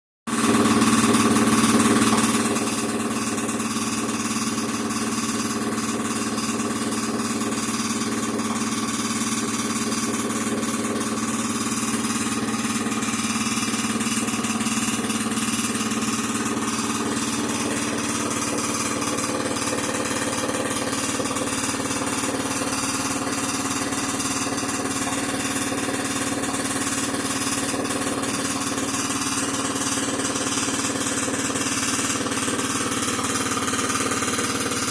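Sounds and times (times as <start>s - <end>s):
air compressor running: 0.3s - 34.9s.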